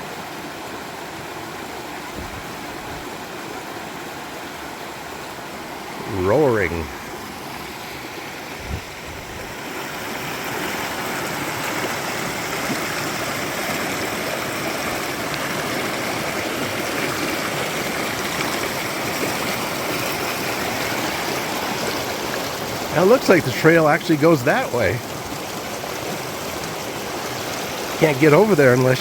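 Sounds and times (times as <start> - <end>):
river rushing over rocks: 0.0 - 29.0.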